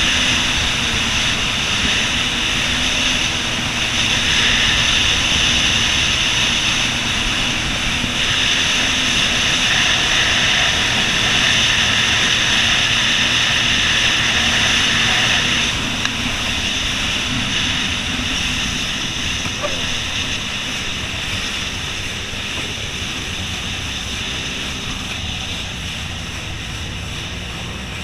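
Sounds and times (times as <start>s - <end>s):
spray hissing off hull: 0.0s - 27.9s
jet ski engine: 0.0s - 28.0s.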